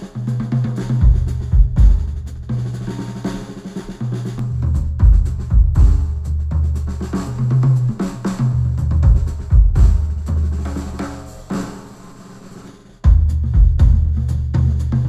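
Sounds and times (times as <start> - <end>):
music with drums and heavy bass: 0.0 - 11.9, 13.0 - 15.0.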